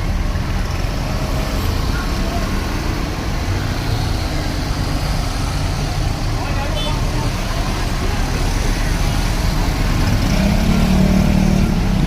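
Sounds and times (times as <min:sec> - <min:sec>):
motor vehicle road noise: 0:00.0 - 0:12.0.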